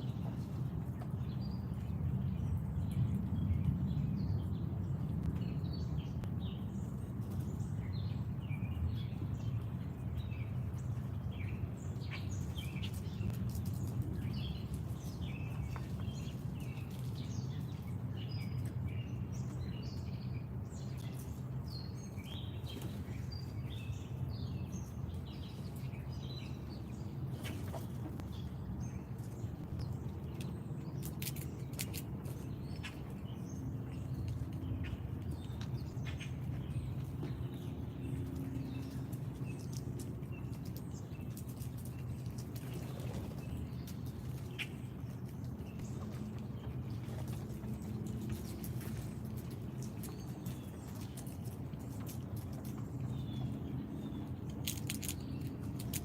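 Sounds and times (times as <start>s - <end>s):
low background hum: 0.0s - 56.0s
songbirds chirping: 0.0s - 56.0s.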